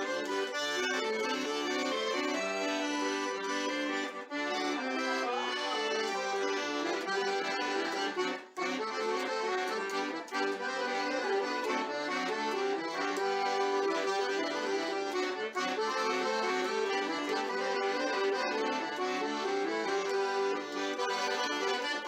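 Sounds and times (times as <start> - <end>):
accordion playing a tune: 0.0 - 22.0.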